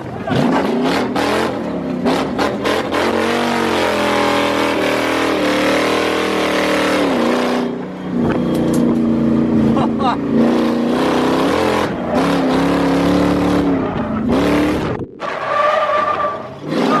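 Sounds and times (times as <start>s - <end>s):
car engine revving hard: 0.0s - 8.4s, 9.3s - 17.0s.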